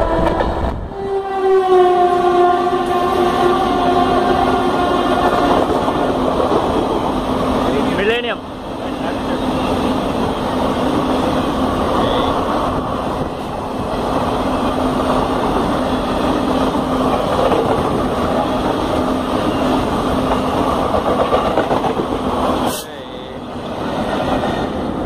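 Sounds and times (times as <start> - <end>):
train wheels rumbling on rails: 1.9 - 25.0.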